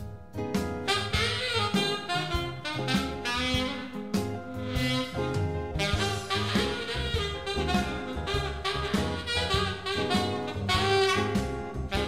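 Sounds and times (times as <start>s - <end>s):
backing track with bass and drums: 0.0s - 12.0s
saxophone playing jazzy melody: 0.8s - 12.0s.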